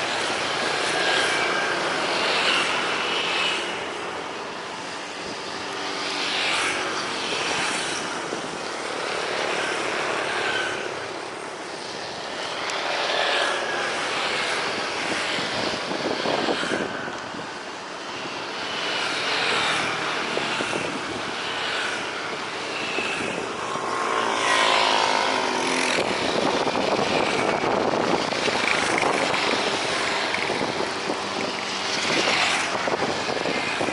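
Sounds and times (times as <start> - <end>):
propeller aircraft engine: 0.0 - 33.9.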